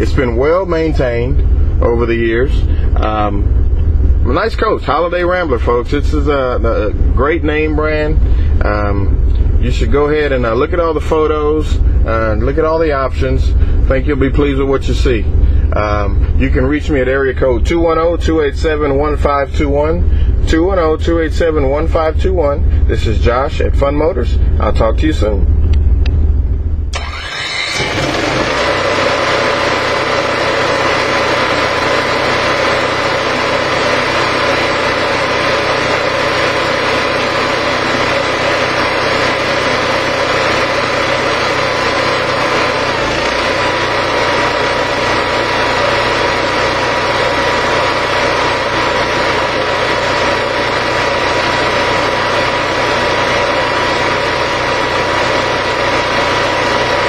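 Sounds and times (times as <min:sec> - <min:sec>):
faint steady whine: 0:00.0 - 0:57.0
generator engine running: 0:00.0 - 0:57.0.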